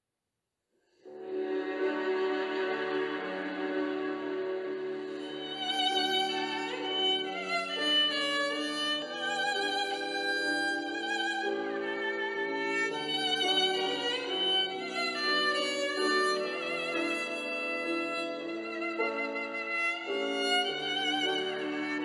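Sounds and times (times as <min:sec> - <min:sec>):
slow violin music: 0:01.0 - 0:22.0.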